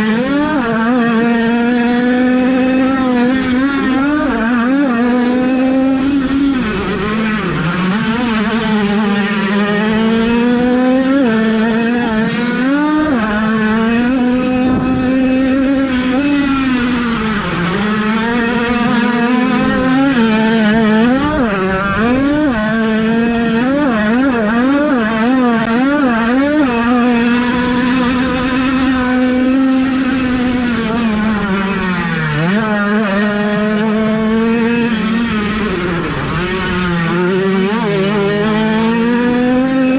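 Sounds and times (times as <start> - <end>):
two-stroke motorcycle engines revving: 0.0 - 39.9.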